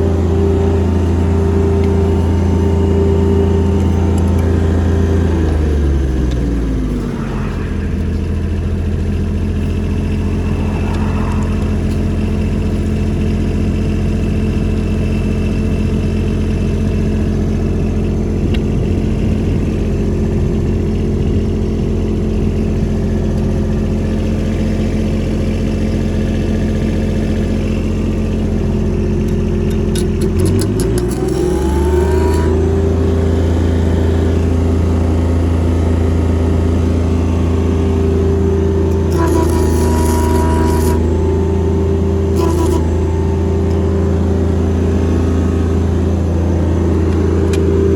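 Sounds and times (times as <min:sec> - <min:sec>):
generator diesel engine running: 0:00.0 - 0:47.9.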